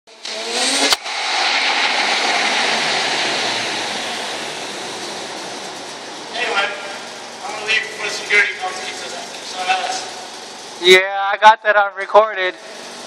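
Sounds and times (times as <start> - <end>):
engine revving exhaust: 0.1 - 10.8.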